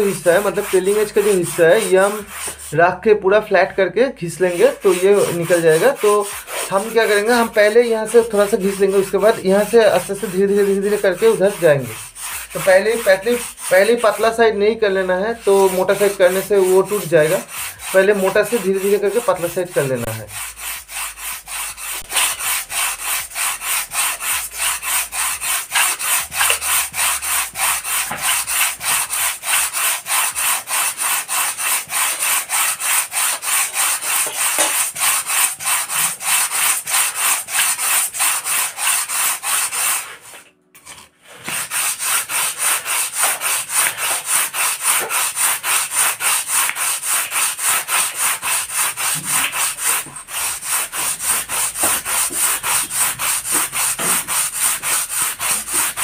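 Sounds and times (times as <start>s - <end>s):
sandpaper block rasping on foam: 0.0s - 56.0s.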